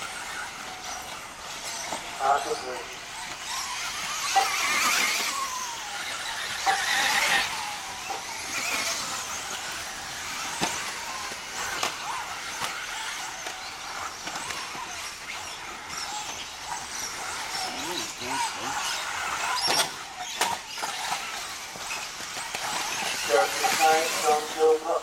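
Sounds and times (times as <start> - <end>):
rc car motor whine: 0.0 - 25.0.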